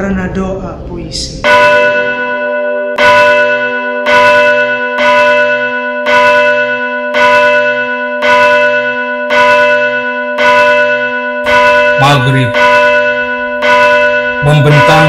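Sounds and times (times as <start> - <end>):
large bell tolling: 0.0 - 15.0.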